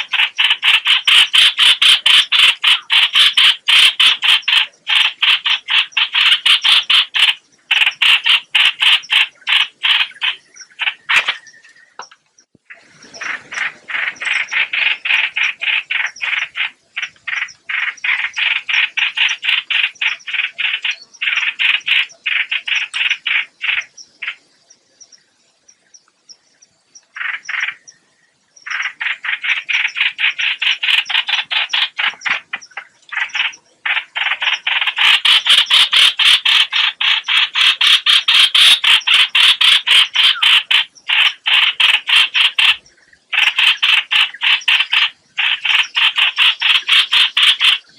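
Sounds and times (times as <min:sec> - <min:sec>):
bird rattling call: 0:00.0 - 0:11.6, 0:13.0 - 0:24.4, 0:27.1 - 0:27.9, 0:28.6 - 0:47.9.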